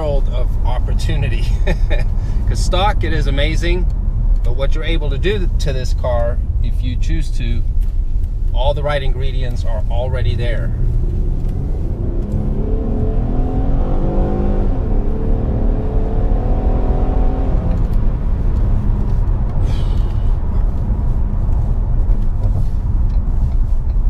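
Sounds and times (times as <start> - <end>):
car engine accelerating: 0.0 - 24.0
road and tyre rumble: 0.0 - 24.0.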